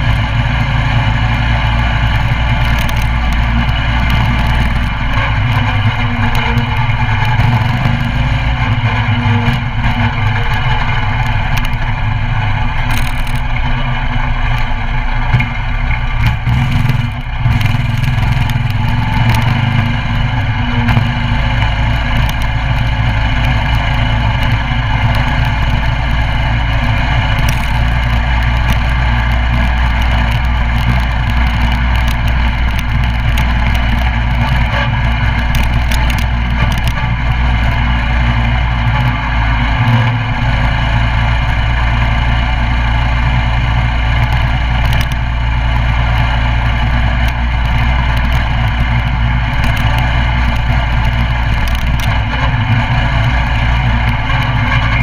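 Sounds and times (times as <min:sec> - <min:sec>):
mini bike engine running: 0:00.0 - 0:55.0.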